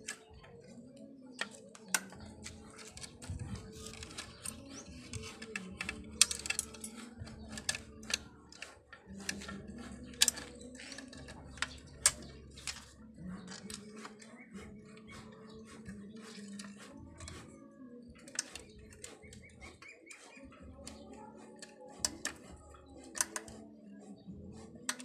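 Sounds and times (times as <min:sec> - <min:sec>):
faint background music: 0:00.0 - 0:25.0
metal clicks and taps: 0:01.3 - 0:14.2, 0:15.1 - 0:17.5, 0:18.2 - 0:23.6, 0:24.6 - 0:25.0.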